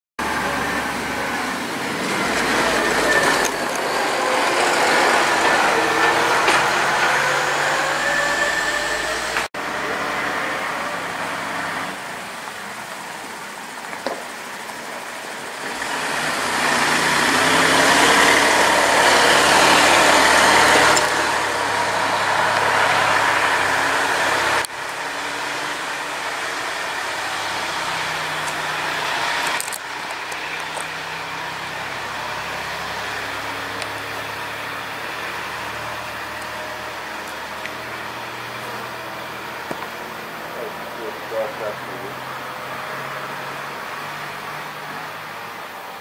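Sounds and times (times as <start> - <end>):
diesel engine rumbling: 0.2 - 46.0.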